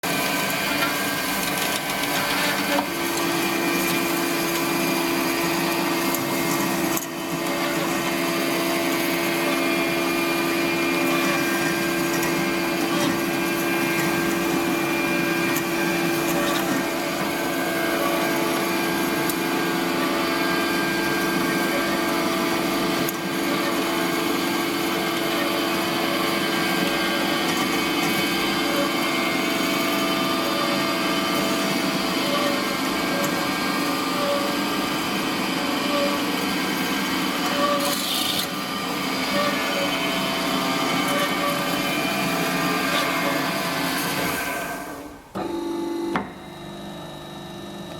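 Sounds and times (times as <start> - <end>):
air compressor running: 0.0 - 47.9.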